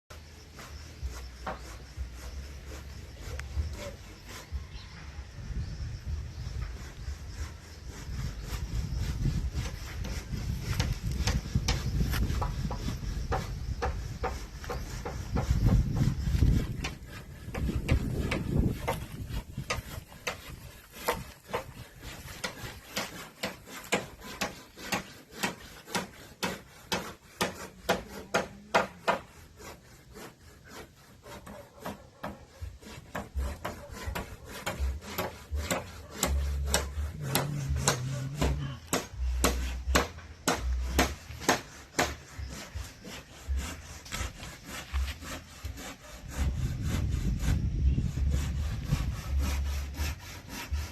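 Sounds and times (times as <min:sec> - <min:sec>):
hand saw cutting wood: 0:00.1 - 0:05.0, 0:06.3 - 0:50.9.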